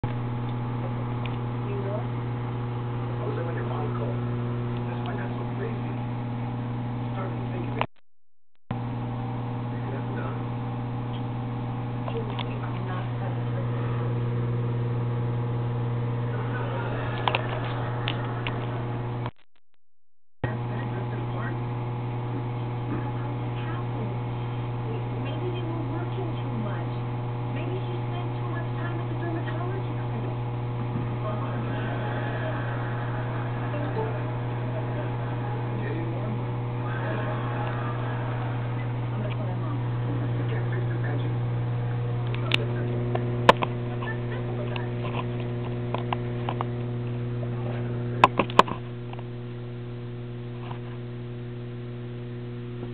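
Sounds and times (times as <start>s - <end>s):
low electrical hum: 0.0s - 7.9s, 8.8s - 19.3s, 20.4s - 52.9s.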